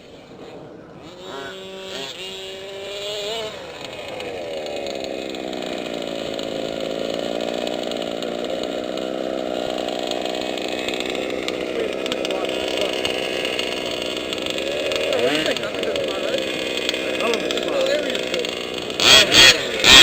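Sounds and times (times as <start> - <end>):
small two-stroke engine revving: 0.0 - 20.0.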